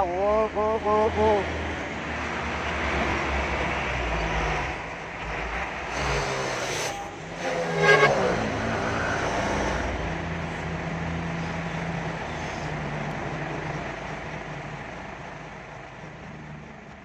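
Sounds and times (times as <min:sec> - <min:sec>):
diesel truck engine running: 0:00.0 - 0:17.0
road traffic noise: 0:00.0 - 0:17.0.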